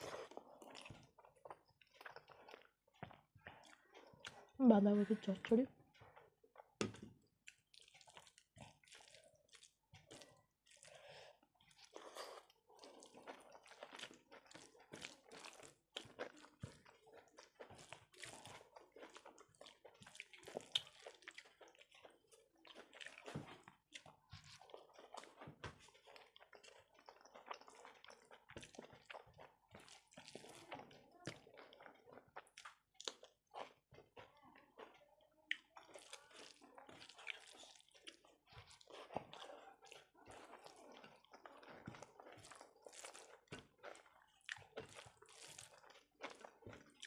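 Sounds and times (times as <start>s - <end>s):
chewing: 0.0s - 47.0s
fingers squishing rice: 6.4s - 34.2s, 35.6s - 47.0s.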